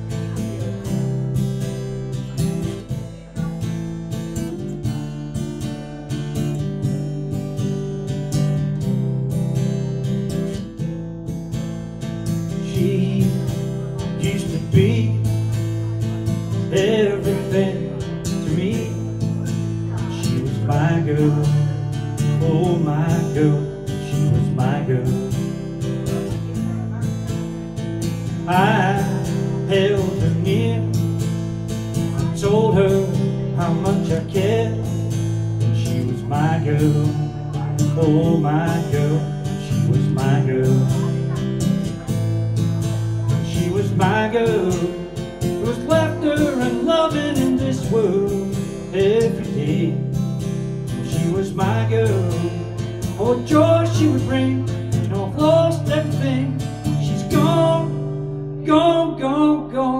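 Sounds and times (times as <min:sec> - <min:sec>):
man singing: 0:00.0 - 0:07.0, 0:11.9 - 0:59.9
acoustic guitar strumming: 0:00.0 - 0:59.9.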